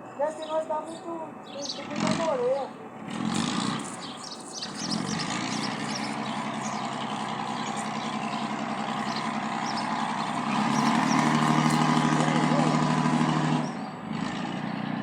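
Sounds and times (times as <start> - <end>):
small birds chirping: 0.0 - 15.0
engine running steadily: 1.6 - 15.0.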